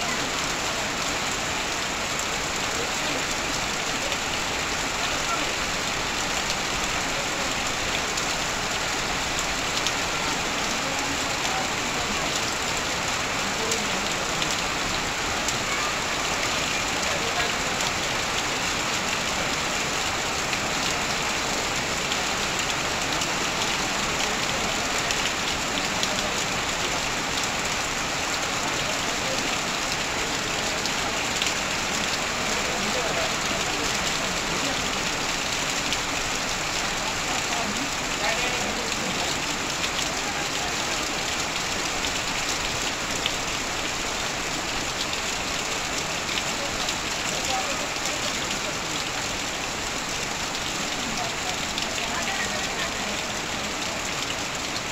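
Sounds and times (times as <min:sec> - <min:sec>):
heavy rain on metal roof: 0:00.0 - 0:54.9
water running off roof: 0:00.0 - 0:54.9.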